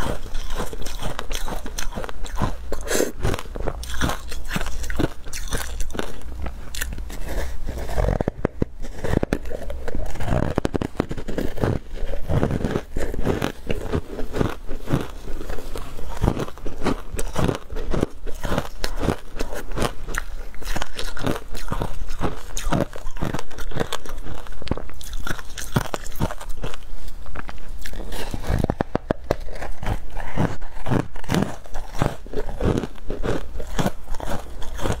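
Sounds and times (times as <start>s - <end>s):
ice crunching between teeth: 0.0s - 35.0s.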